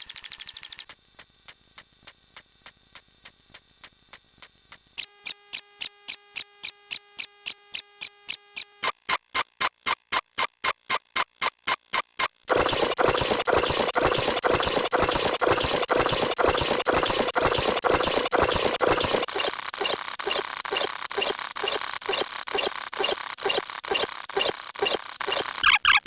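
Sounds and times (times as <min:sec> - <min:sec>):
sharp electronic ticks: 0:00.0 - 0:26.0.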